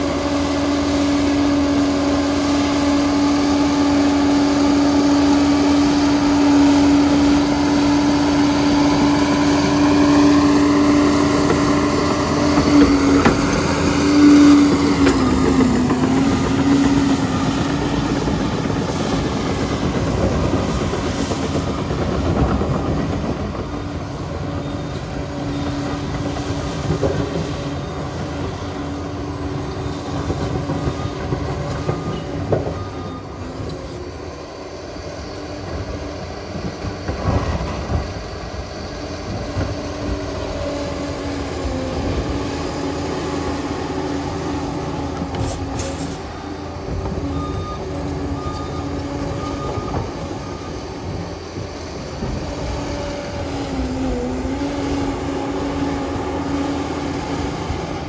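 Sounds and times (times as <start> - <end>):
diesel engine whining: 0.0 - 58.0
steel tracks clanking and squealing: 0.0 - 58.0.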